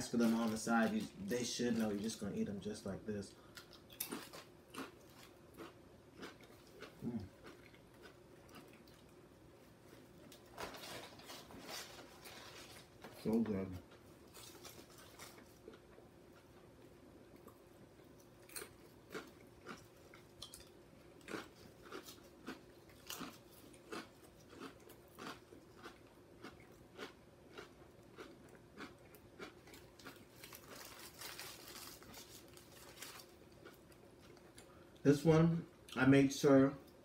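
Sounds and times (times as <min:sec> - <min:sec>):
faint steady hum: 0:00.0 - 0:37.0
crunchy chewing: 0:03.4 - 0:35.0.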